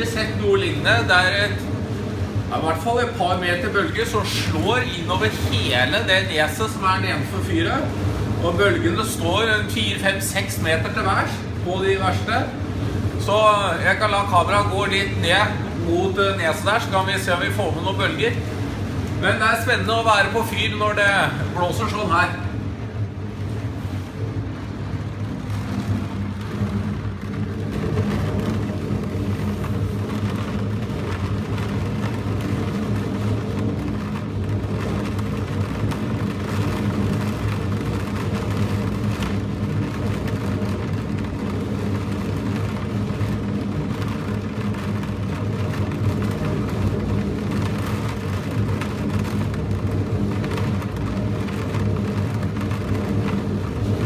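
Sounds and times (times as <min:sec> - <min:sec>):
storm wind buffeting microphone: 0:00.0 - 0:54.0.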